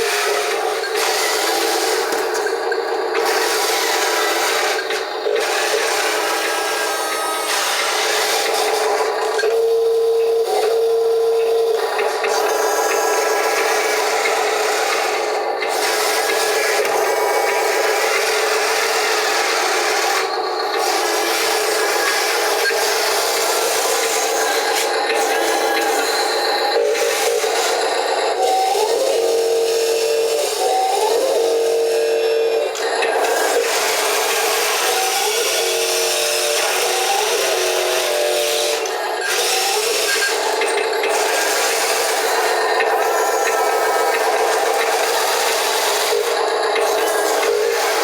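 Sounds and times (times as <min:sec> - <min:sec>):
wheel loader machine whir: 0:00.0 - 0:48.0.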